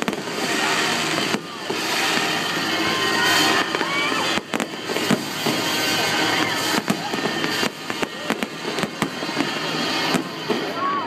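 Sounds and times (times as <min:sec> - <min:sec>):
fireworks bangs and pops: 0:00.0 - 0:11.0
fireworks crackling hiss: 0:00.0 - 0:11.0.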